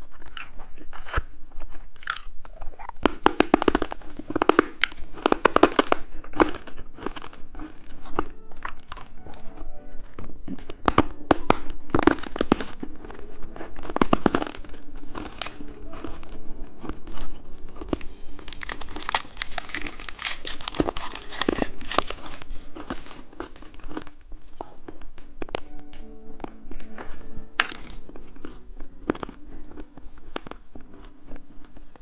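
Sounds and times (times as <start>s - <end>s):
plastic wrapper crinkling: 2.7s - 32.0s.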